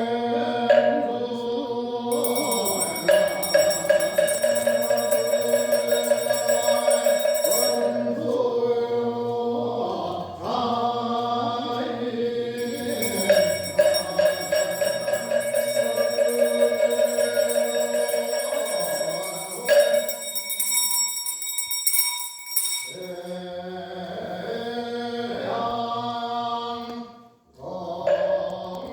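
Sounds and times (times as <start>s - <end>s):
voices chanting: 0.0s - 22.0s, 22.6s - 28.9s.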